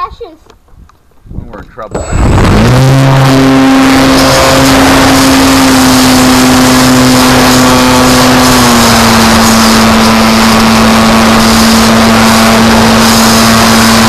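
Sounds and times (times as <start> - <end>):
model plane motor and propeller: 1.9 - 14.0.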